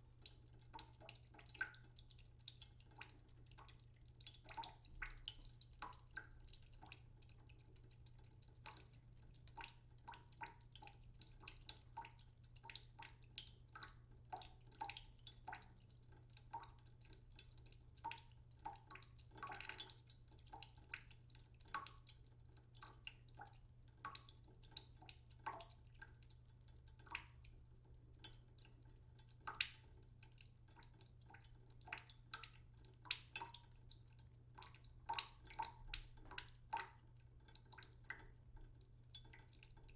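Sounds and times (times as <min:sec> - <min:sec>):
water dripping and splashing: 0:00.0 - 0:39.9.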